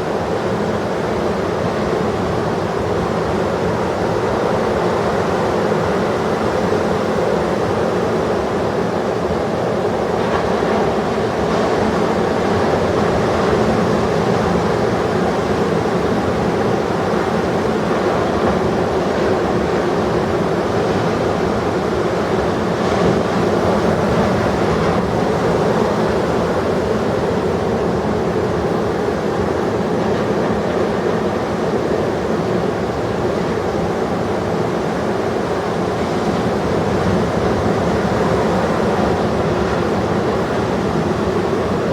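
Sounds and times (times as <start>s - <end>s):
heavy ocean surf breaking: 0.0s - 41.9s.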